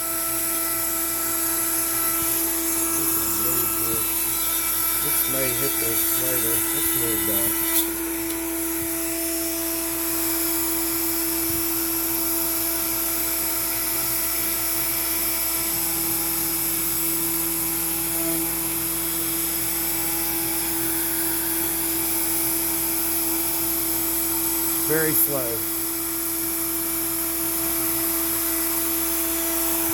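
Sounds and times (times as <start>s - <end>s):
router whining while cutting wood: 0.0s - 29.9s.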